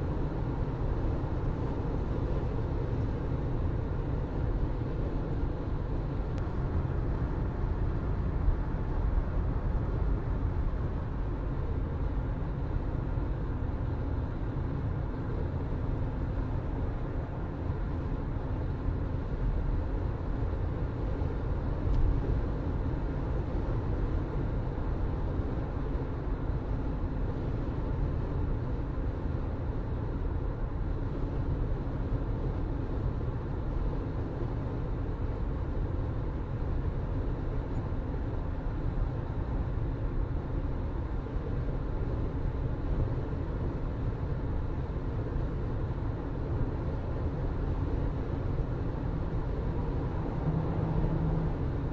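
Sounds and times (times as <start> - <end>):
car engine hum: 0.0 - 51.9.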